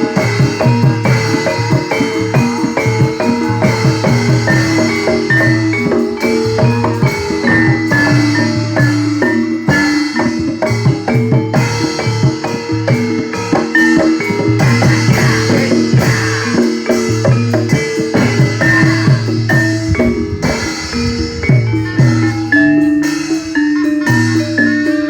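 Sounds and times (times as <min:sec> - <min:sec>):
bronze metallophones ringing: 0:00.0 - 0:25.0
drum strokes: 0:00.0 - 0:25.0.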